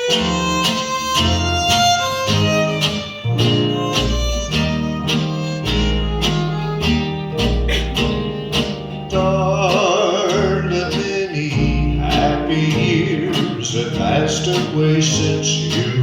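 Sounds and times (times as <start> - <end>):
bass line: 0.0 - 16.0
fiddle melody: 0.0 - 16.0
strummed acoustic guitar: 0.0 - 16.0.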